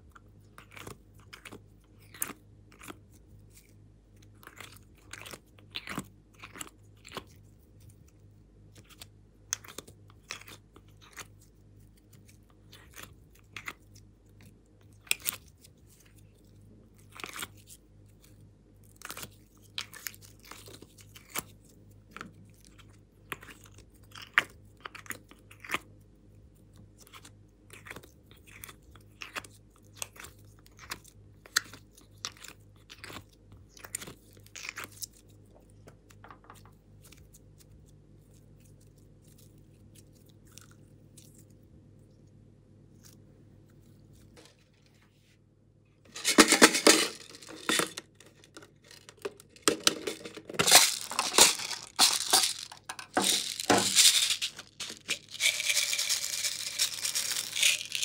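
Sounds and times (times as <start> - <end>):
clay squishing in plastic tray: 0.0 - 58.0
faint low hum: 0.0 - 58.0.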